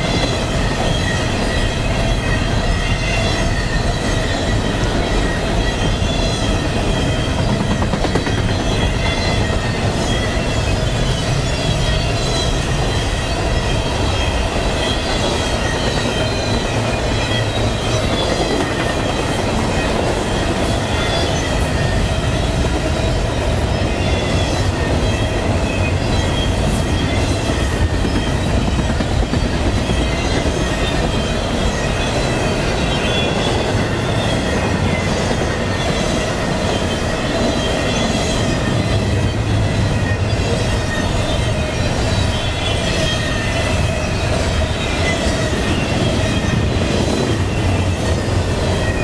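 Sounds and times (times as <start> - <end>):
freight train wheels rumbling on rails: 0.0 - 49.0.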